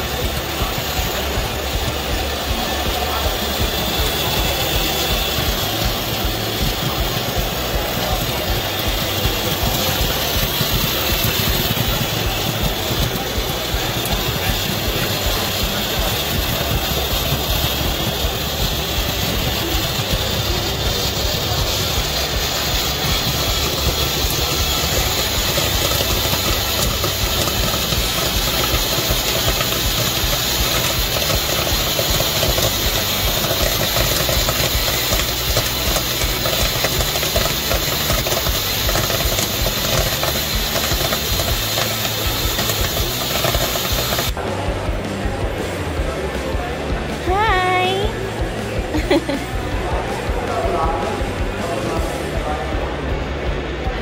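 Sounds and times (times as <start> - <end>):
popcorn kernels popping: 0.0 - 44.4
popcorn machine hissing: 0.0 - 54.0.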